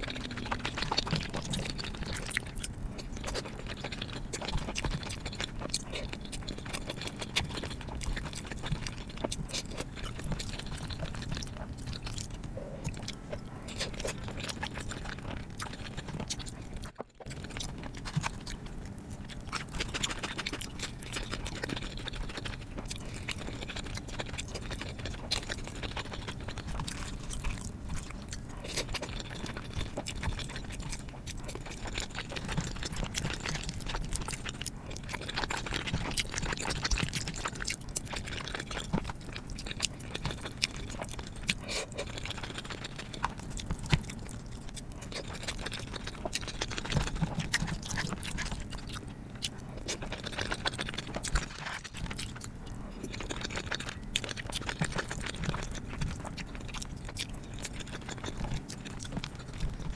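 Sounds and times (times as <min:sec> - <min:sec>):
close chewing and biting: 0:00.0 - 0:59.9.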